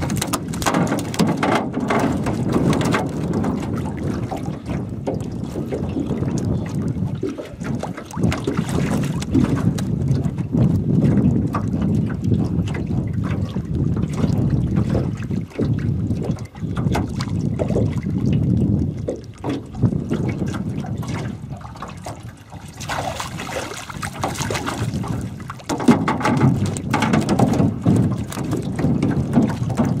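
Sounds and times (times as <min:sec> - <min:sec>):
fish thrashing in water: 0:00.0 - 0:30.0
wind rumble on microphone: 0:00.0 - 0:30.0.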